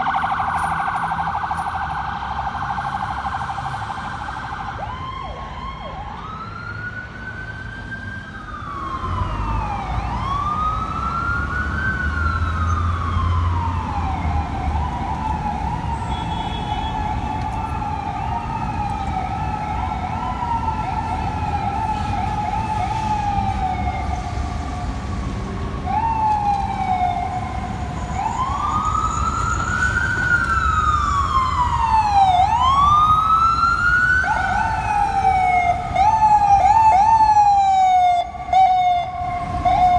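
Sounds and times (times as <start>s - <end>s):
emergency siren wail and yelp: 0.0s - 39.9s.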